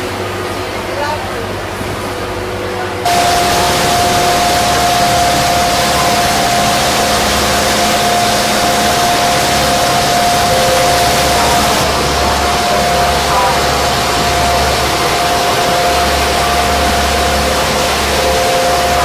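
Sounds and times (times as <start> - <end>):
boat engine running: 0.0 - 19.0
churning water: 0.0 - 19.0
thin steady whine: 3.1 - 19.0.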